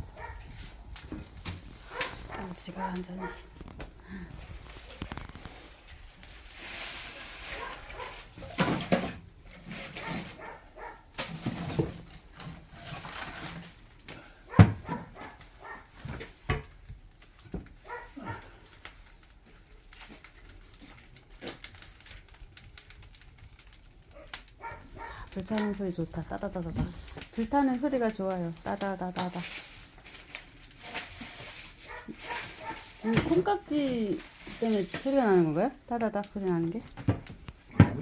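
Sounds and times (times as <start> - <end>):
firewood crackling and popping: 0.0 - 38.0.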